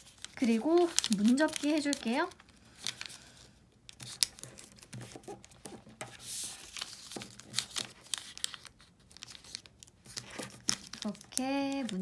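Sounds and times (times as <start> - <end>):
paper crinkling and crackling: 0.0 - 12.0.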